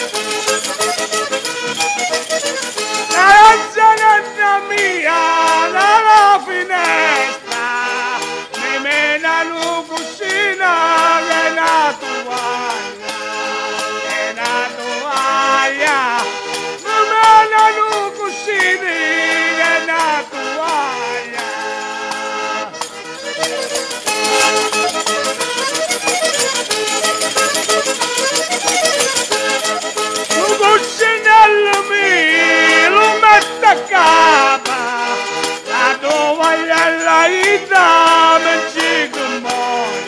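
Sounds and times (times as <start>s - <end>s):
rattling percussion shaking: 0.0s - 7.9s, 8.6s - 40.0s
button accordion folk tune: 0.0s - 40.0s.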